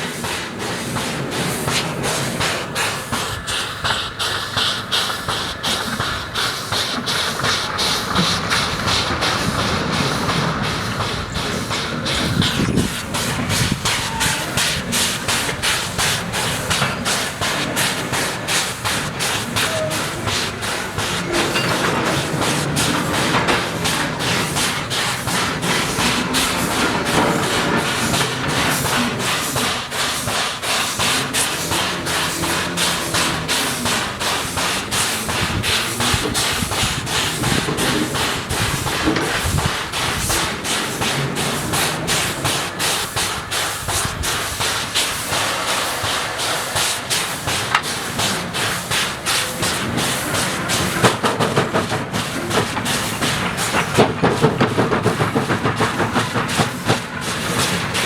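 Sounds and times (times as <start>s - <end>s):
steam hissing: 0.0s - 58.0s
steam locomotive exhaust beats: 0.0s - 58.0s.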